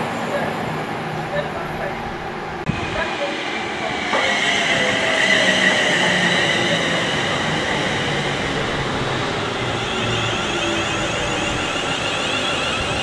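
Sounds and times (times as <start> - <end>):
train wheel and rail noise: 0.0 - 13.0.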